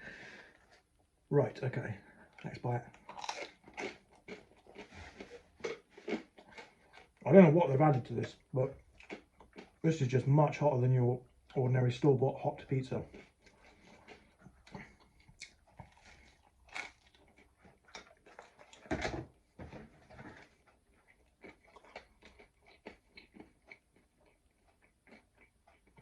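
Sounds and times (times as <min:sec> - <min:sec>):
faint chewing: 0:02.0 - 0:26.0.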